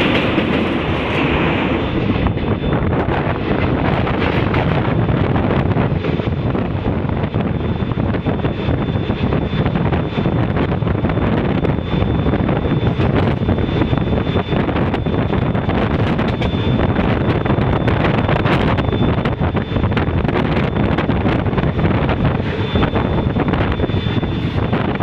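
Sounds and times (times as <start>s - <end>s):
train rumbling at speed: 0.0s - 25.0s
wind buffeting microphone: 0.0s - 25.0s.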